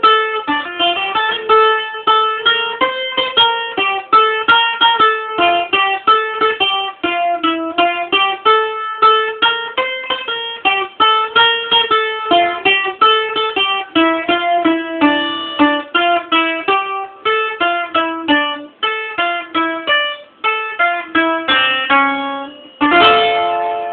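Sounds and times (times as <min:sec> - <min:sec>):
bouzouki plucked melody: 0:00.0 - 0:23.9.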